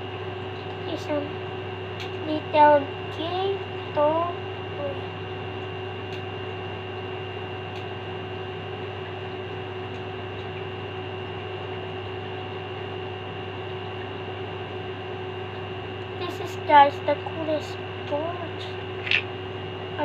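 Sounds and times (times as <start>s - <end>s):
electric fan humming: 0.0s - 20.0s.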